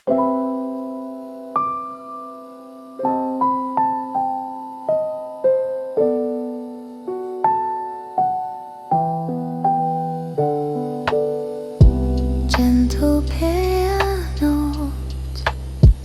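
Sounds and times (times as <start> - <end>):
slow electric piano chords: 0.0 - 16.0.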